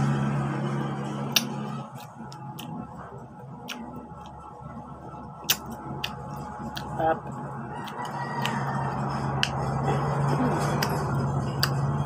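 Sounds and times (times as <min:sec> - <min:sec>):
low steady hum: 0:00.0 - 0:12.0
crisp mango being chewed: 0:01.0 - 0:12.0.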